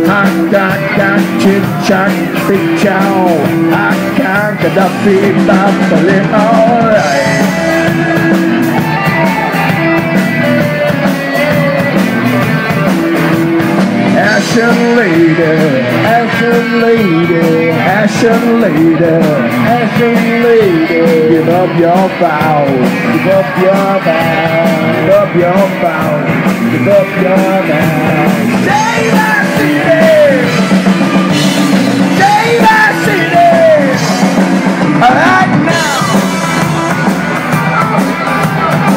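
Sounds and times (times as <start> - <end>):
male lead vocal: 0.0 - 12.4, 14.0 - 36.6
drum kit: 0.0 - 38.9
electric guitars: 0.0 - 38.9.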